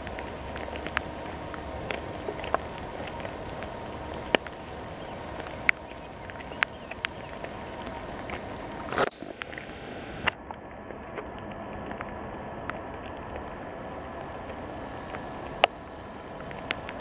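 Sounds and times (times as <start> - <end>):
raindrops ticking near microphone: 0.0 - 17.0
steady rain: 0.0 - 17.0.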